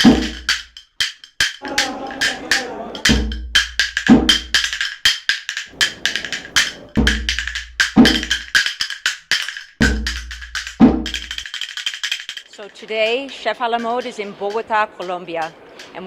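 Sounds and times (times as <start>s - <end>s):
percussion music: 0.0s - 16.0s
sharp clicking hits: 0.0s - 16.0s.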